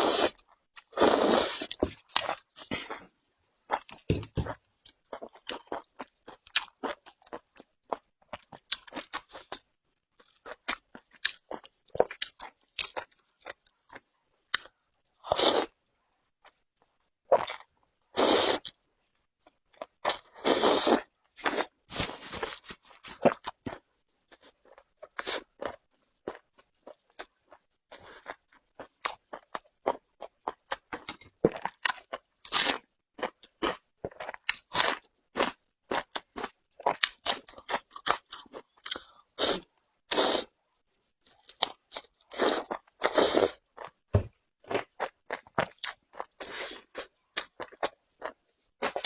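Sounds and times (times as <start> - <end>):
crunching and chewing: 3.7 - 15.8, 21.0 - 40.5, 41.2 - 49.0.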